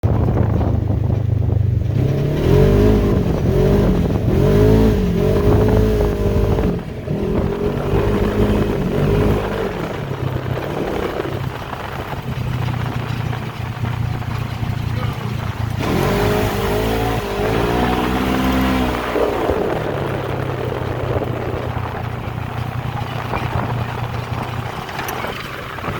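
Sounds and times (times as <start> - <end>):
atv engine revving: 0.0 - 25.9.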